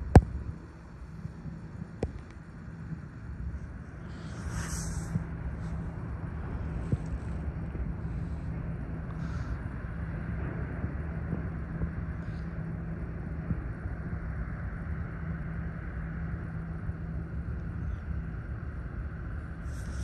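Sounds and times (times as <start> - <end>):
ship engines humming: 0.0 - 20.0
wind rumbling on microphone: 0.0 - 20.0.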